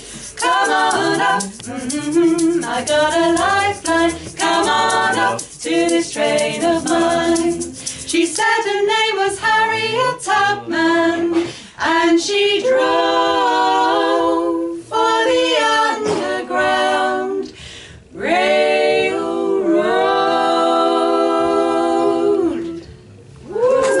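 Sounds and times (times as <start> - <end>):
women singing in harmony: 0.0 - 22.9.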